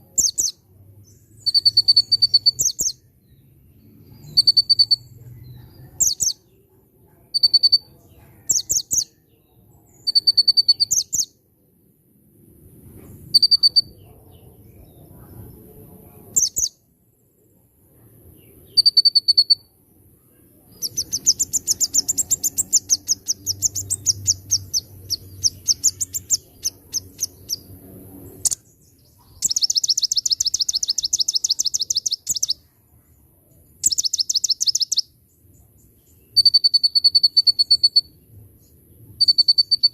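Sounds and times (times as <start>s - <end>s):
small bird singing and trilling: 0.0s - 11.4s, 13.3s - 16.8s, 18.4s - 19.8s, 20.4s - 32.7s, 33.5s - 39.9s.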